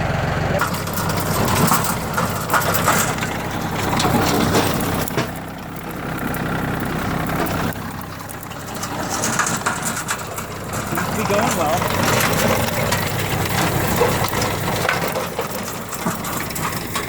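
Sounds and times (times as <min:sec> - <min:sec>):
tiller crunching soil: 0:00.0 - 0:17.0
tractor diesel engine hum: 0:00.0 - 0:17.0.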